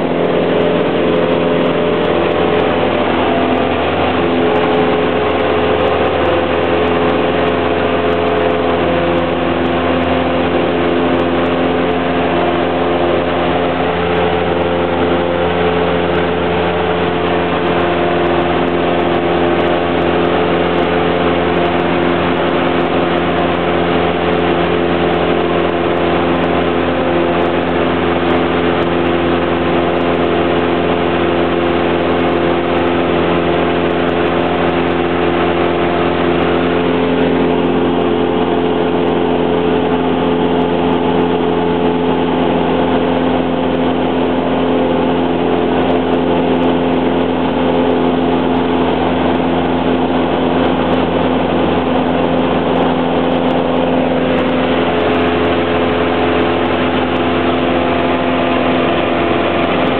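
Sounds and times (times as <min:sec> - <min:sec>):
propeller aircraft engine droning: 0:00.0 - 0:59.9.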